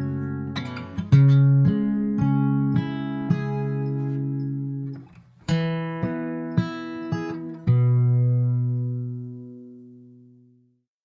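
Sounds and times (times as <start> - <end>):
acoustic guitar chords: 0.0 - 10.8.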